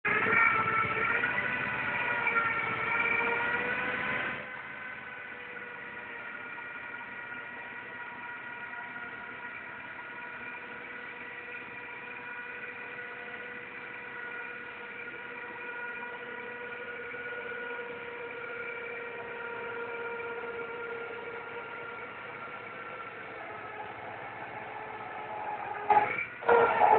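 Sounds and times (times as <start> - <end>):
hydraulic press whine: 0.0 - 26.9
diesel engine running: 0.1 - 26.9.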